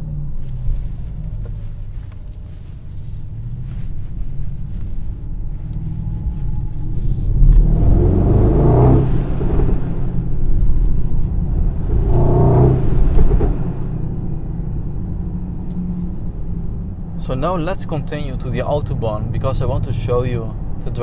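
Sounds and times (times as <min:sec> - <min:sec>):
car engine and exhaust accelerating: 0:00.0 - 0:21.0.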